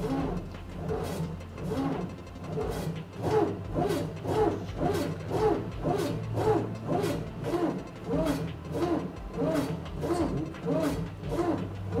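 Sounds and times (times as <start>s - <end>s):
slicer blade motor humming: 0.0s - 12.0s
slicer carriage whine: 0.0s - 12.0s.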